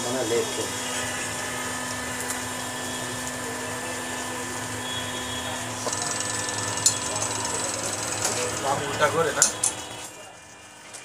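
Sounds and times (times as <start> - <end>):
test bench machine whir: 0.0 - 11.0.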